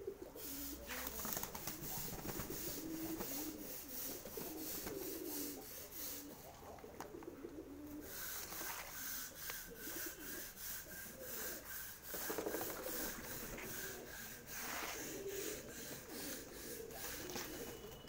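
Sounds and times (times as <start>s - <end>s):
pigeons cooing: 0.0s - 18.0s
short scratchy rubbing noises: 0.4s - 6.5s, 8.1s - 17.7s.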